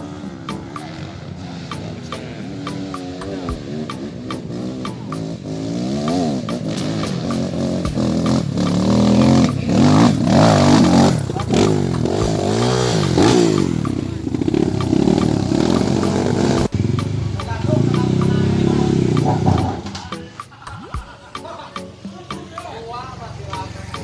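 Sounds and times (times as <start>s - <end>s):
off-road vehicle engine revving: 0.0s - 20.6s, 21.4s - 24.0s.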